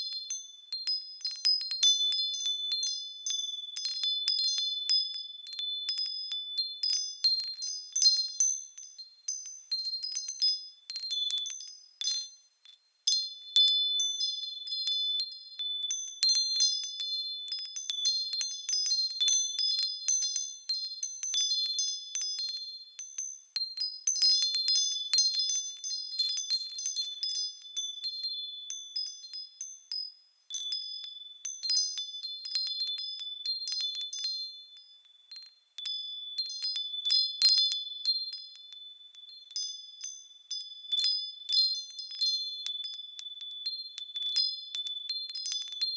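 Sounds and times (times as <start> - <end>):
small metal chimes tinkling: 0.0 - 45.9.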